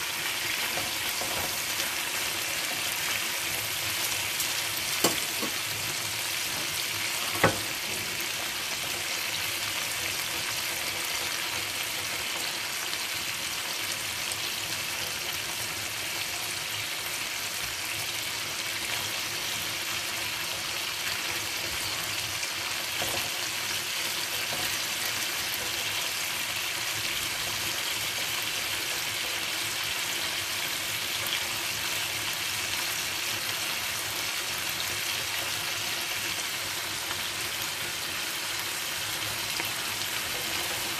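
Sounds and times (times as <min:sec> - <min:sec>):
chicken sizzling in oil: 0:00.0 - 0:40.9.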